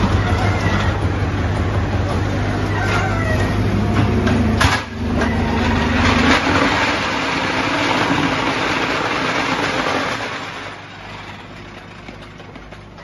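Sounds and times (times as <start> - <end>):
block-making machine running: 0.0 - 13.0.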